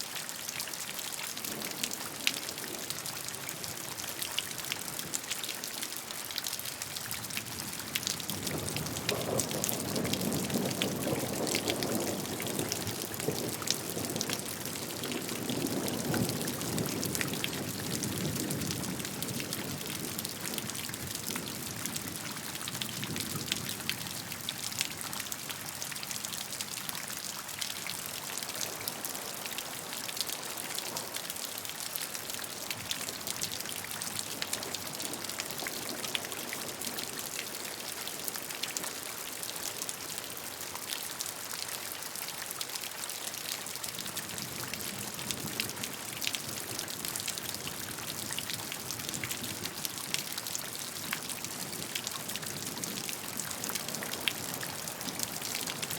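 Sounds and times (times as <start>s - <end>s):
rain drops ticking: 0.1s - 55.9s.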